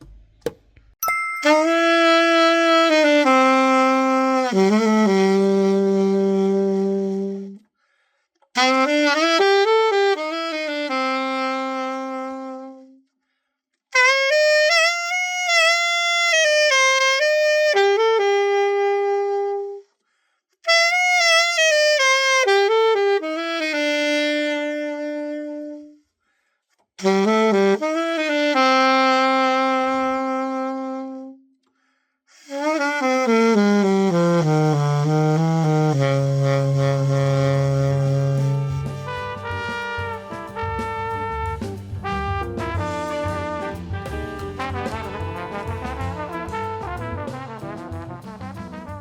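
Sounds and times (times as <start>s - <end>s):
alto saxophone phrases: 1.4s - 7.6s, 8.6s - 13.0s, 14.0s - 19.9s, 20.7s - 26.0s, 27.0s - 31.5s, 32.4s - 49.0s.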